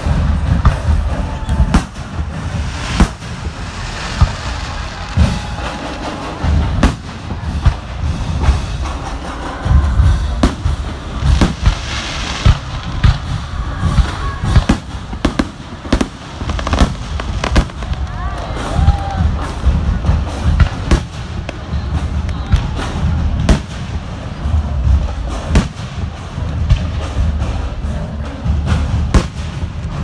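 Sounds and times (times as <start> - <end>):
fireworks booms and bangs: 0.0 - 30.0
fireworks crackling hiss: 0.0 - 30.0.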